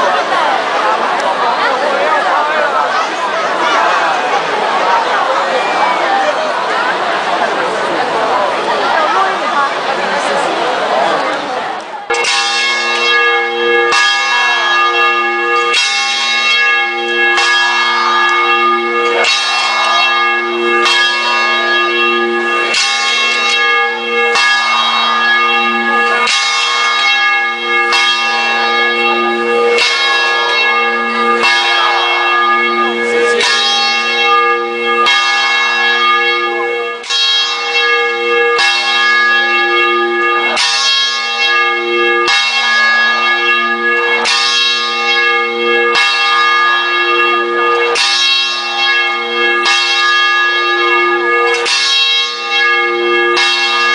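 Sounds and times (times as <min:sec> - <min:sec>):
large tower bell ringing: 0:00.0 - 0:53.9.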